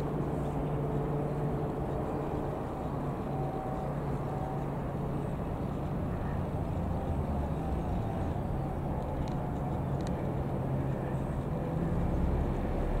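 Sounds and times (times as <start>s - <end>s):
light aircraft engine drone: 0.0s - 13.0s.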